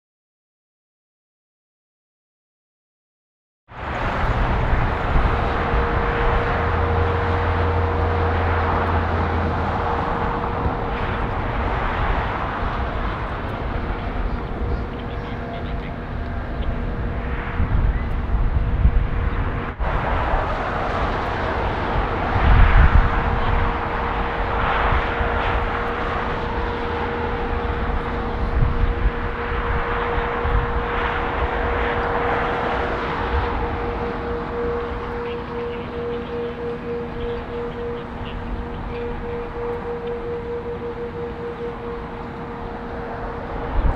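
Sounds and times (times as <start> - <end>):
jet engines rushing: 3.7 - 43.9
thin steady whine: 3.7 - 43.9.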